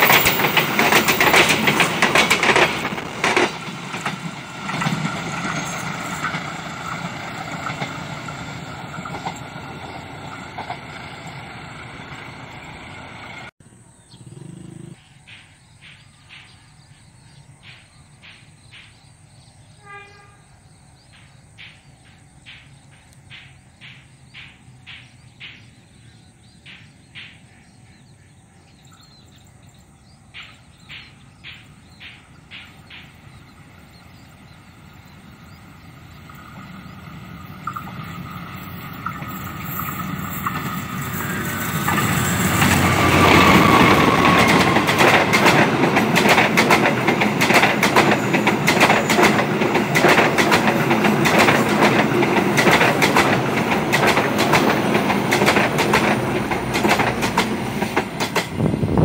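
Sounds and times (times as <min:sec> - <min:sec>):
train rumbling past: 0:00.0 - 0:59.0.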